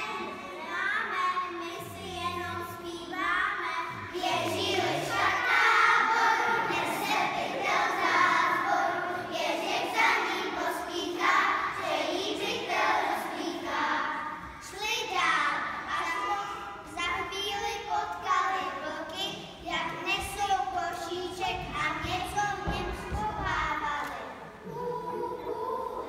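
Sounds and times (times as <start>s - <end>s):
children singing together: 0.0s - 19.5s, 24.3s - 26.0s.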